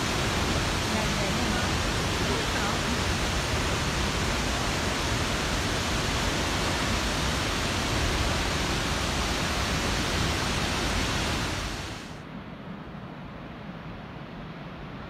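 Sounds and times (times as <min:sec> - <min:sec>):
waterfall crashing: 0:00.0 - 0:12.2.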